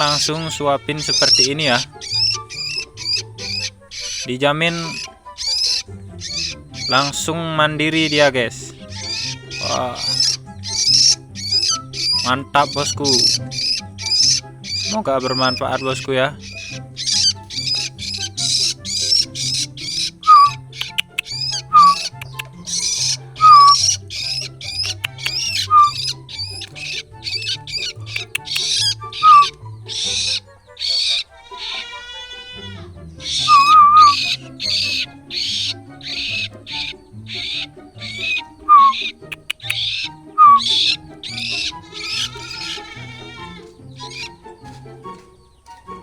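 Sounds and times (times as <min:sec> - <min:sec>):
bird chick begging calls: 0:00.0 - 0:45.7
background music: 0:00.0 - 0:46.0.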